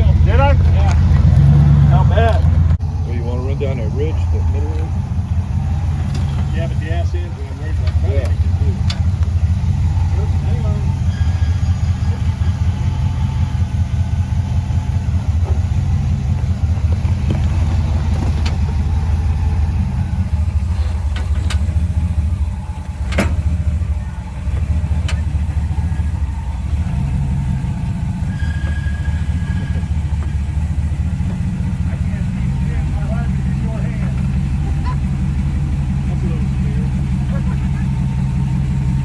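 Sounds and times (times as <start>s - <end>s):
engine running at low revs: 0.0s - 39.0s.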